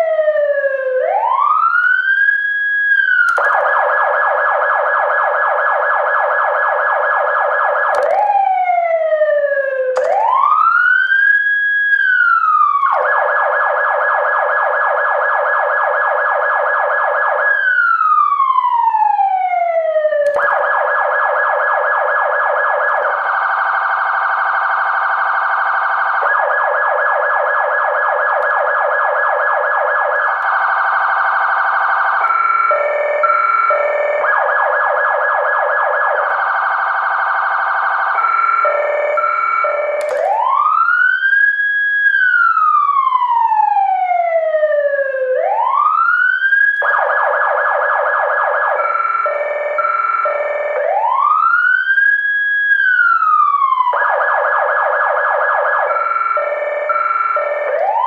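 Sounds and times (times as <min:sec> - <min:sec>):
electronic siren wailing and warbling: 0:03.0 - 0:58.0.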